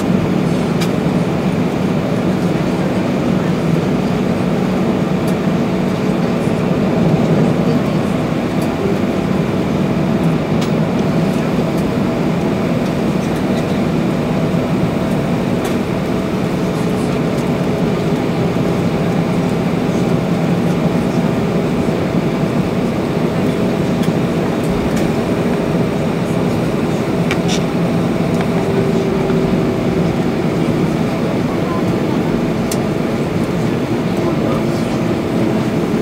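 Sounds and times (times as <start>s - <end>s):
cabin rumble: 0.0s - 36.0s
jet engines idling: 0.0s - 36.0s.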